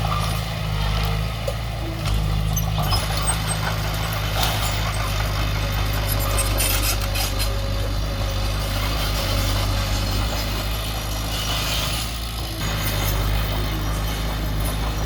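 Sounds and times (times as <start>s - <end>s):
heavy machinery diesel engine running: 0.0s - 15.0s.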